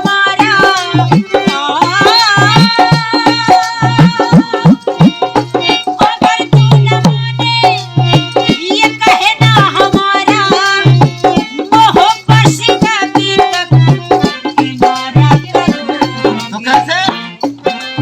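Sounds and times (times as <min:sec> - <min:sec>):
hand drums playing rhythm: 0:00.0 - 0:18.0.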